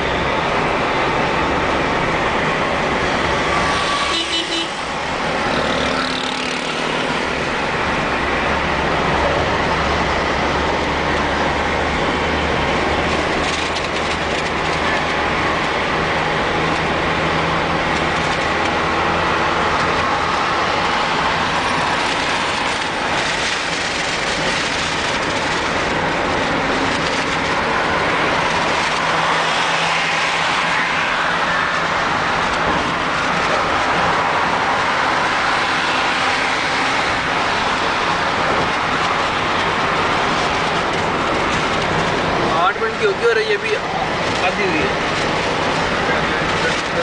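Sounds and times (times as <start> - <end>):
car engine hum: 0.0 - 47.0
tyre and road noise: 0.0 - 47.0.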